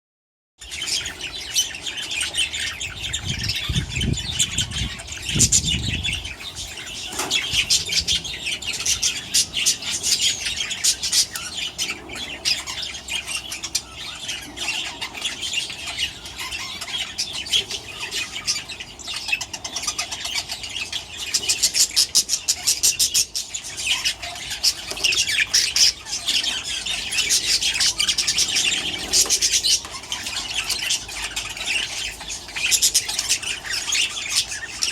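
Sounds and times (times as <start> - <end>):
budgerigars chattering and squawking: 0.6 - 34.9.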